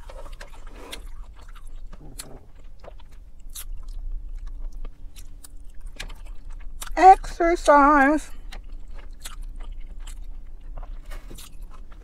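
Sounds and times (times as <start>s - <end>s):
chewing and biting food: 0.0s - 7.3s, 8.3s - 12.0s.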